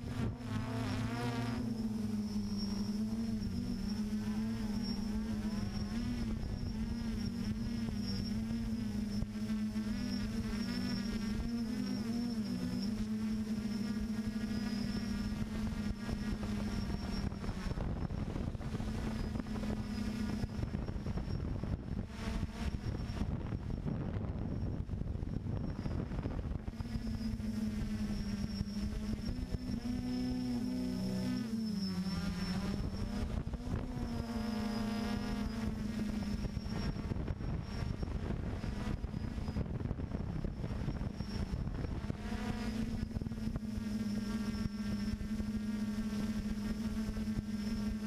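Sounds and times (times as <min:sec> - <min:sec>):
drone propellers whirring: 0:00.0 - 0:48.0
high thin motor whine: 0:00.0 - 0:48.0
wind rumbling on microphone: 0:00.0 - 0:48.0.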